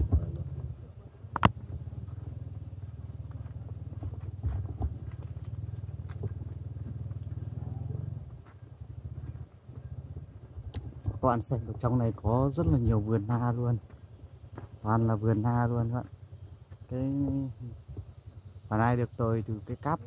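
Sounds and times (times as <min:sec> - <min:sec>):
low engine pulsing: 0:00.0 - 0:20.0.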